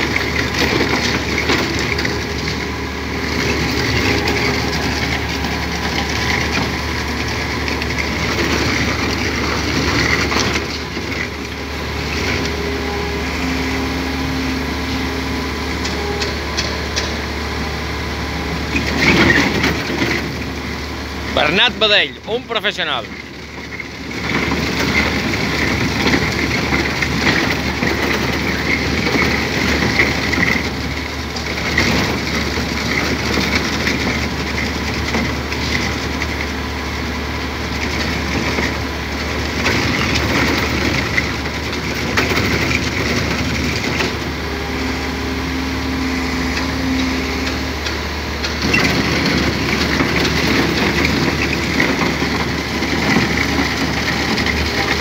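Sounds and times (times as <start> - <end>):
excavator engine drone: 0.0 - 55.0.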